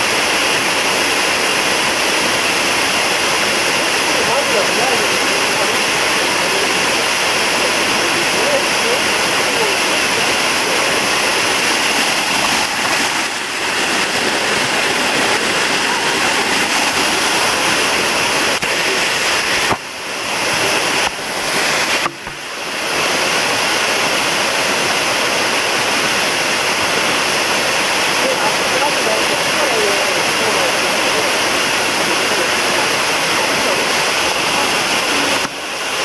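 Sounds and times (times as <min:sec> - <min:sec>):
waterfall rushing over rock: 0:00.0 - 0:36.0.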